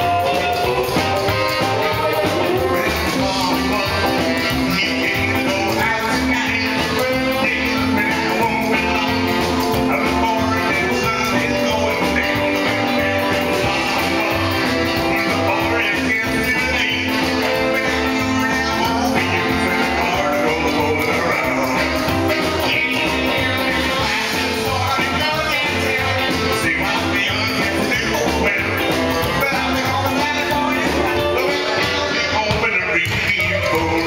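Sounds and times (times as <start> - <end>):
saxophone: 0.0 - 32.5
person singing: 0.0 - 34.0
rock and roll band playing: 0.0 - 34.0.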